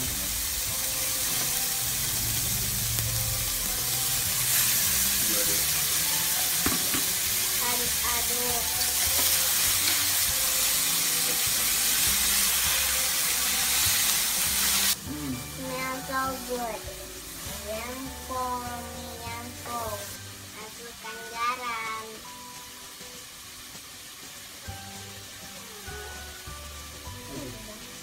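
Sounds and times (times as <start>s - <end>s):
food sizzling in frying pan: 0.0s - 28.0s.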